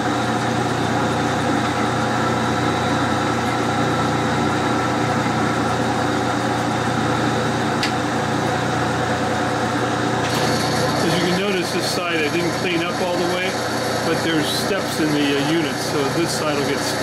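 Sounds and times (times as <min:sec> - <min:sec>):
metal lathe humming: 0:00.0 - 0:17.0.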